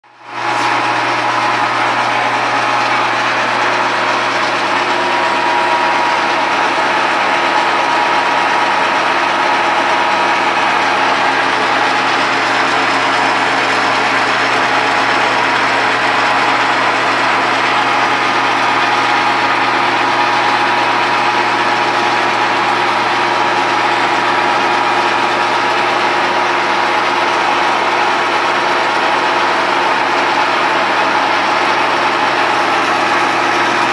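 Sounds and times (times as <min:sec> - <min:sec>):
lathe machine hum: 0:00.1 - 0:33.9.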